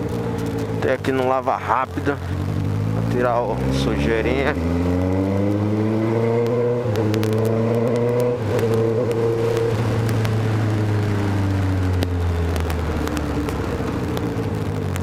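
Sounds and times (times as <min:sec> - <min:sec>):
motorcycle engine with loud exhaust: 0:00.0 - 0:15.0.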